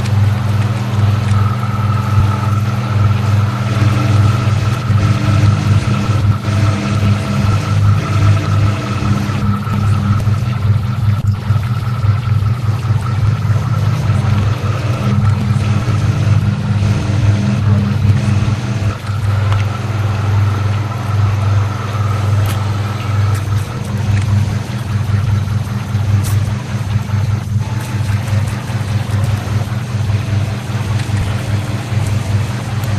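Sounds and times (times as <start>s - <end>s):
low droning electronic hum: 0.0s - 32.9s.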